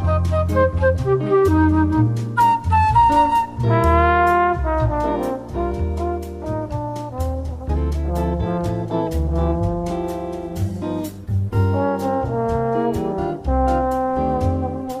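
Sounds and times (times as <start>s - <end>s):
instrumental bossa nova music: 0.0s - 15.0s.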